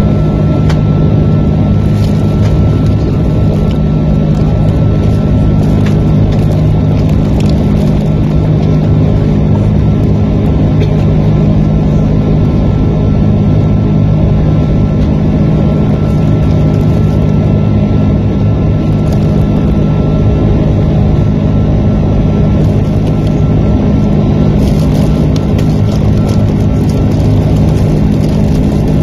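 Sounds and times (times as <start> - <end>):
airflow rushing over fuselage: 0.0 - 29.0
jet engine drone: 0.0 - 29.0.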